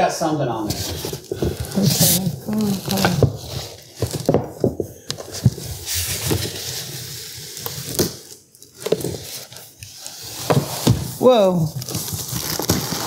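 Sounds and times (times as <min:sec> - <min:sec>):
packing rustling: 0:00.7 - 0:13.0.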